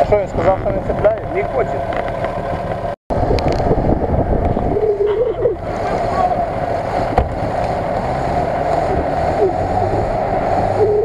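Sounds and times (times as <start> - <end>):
off-road engines running: 0.0 - 11.0.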